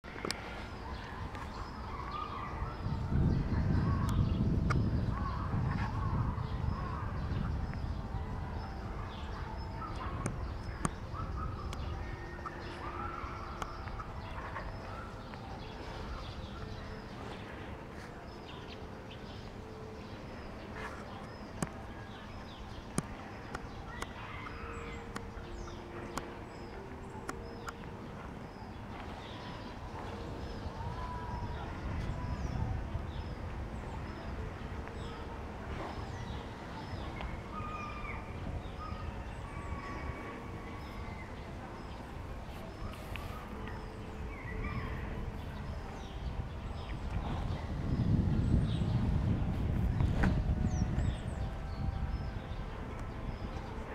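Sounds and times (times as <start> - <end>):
small birds chirping: 0.0 - 53.8
wind rumble on microphone: 0.0 - 53.9.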